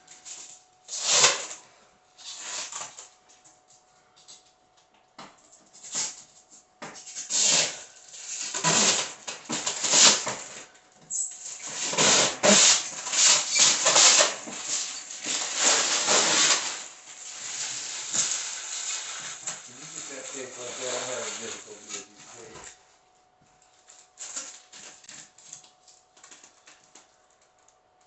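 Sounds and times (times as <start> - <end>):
packing material rustling and scraping: 0.0 - 1.6, 2.2 - 3.6, 5.7 - 22.9, 23.5 - 27.6.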